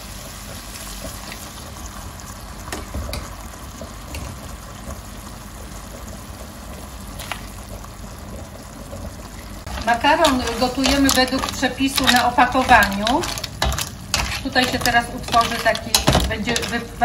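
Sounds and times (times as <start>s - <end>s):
pan simmering with bubbling hiss: 0.0s - 17.0s.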